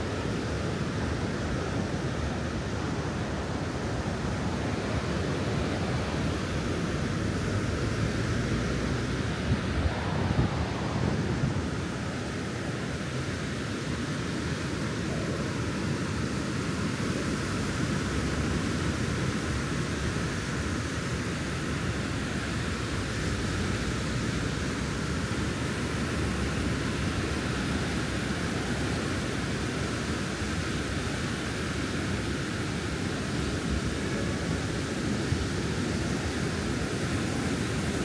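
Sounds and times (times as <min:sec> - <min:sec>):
sea surf: 0:00.0 - 0:38.0
wind: 0:00.0 - 0:38.0.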